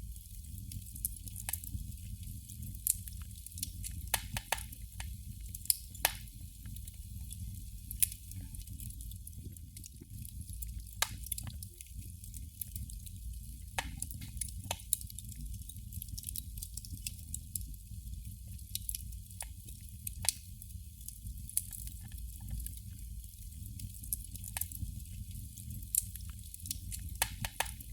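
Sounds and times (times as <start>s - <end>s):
candle flame crackling: 0.0s - 27.9s.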